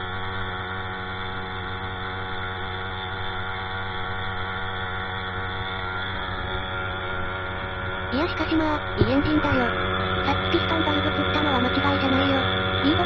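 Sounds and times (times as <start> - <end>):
two-stroke engine droning: 0.0 - 13.0.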